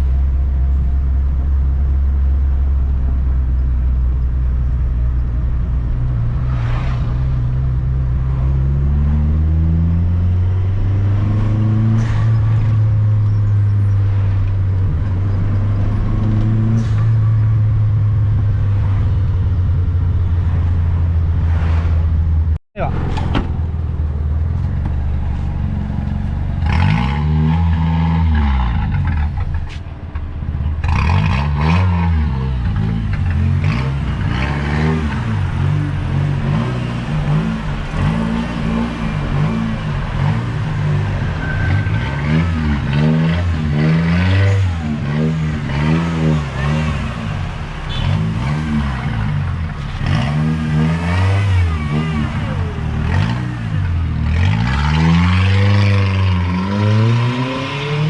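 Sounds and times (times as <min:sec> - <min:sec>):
car engine revving: 0:05.5 - 0:58.0.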